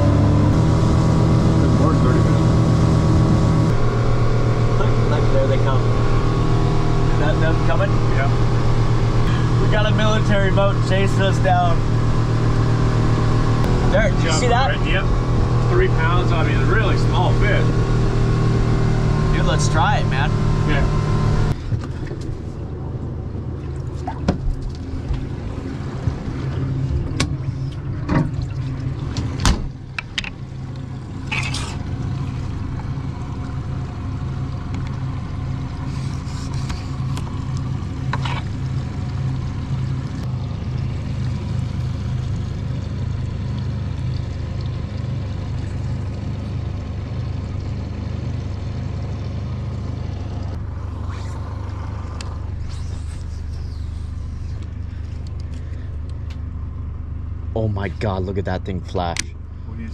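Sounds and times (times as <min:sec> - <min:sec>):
outboard motor humming: 0:00.0 - 0:59.9.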